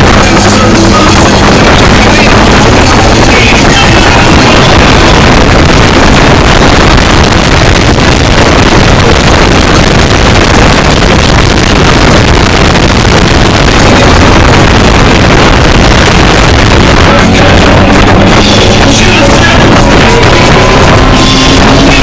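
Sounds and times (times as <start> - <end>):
distorted car engine and wind noise: 0.0 - 22.0.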